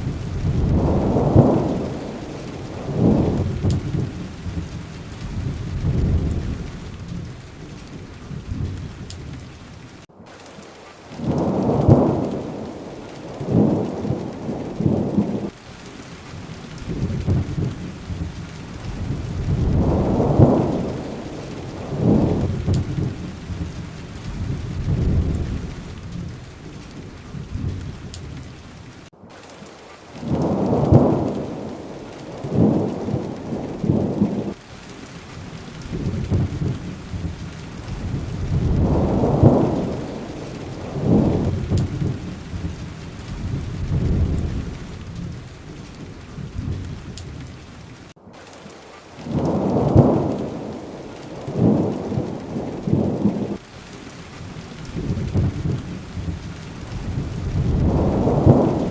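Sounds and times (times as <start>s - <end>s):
rolling thunder: 0.0s - 10.1s, 11.1s - 15.6s, 16.3s - 29.1s, 30.2s - 34.6s, 35.4s - 48.1s, 49.2s - 53.7s, 54.4s - 58.9s
steady rain hiss: 0.0s - 58.9s.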